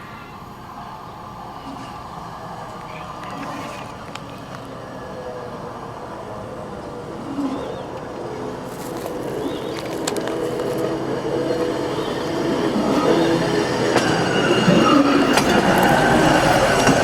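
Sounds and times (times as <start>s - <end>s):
rail wheels running on steel rails: 0.0s - 17.0s.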